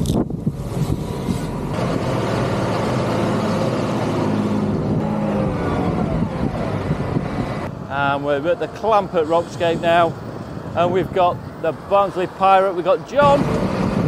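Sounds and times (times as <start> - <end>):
tractor diesel engines running: 0.0 - 14.0.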